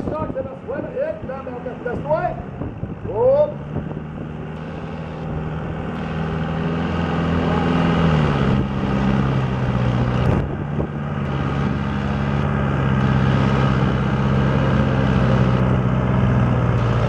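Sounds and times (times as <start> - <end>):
tractor engine labouring: 0.0 - 17.0.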